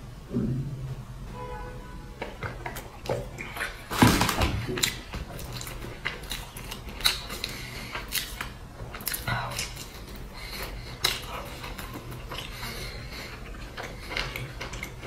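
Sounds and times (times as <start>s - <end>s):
chewing crisp flatbread: 2.2s - 15.0s.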